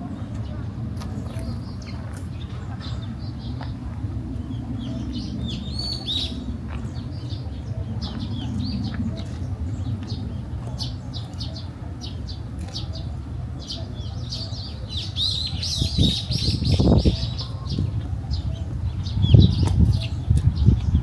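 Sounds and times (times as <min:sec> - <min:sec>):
small birds chirping: 0:00.3 - 0:21.0.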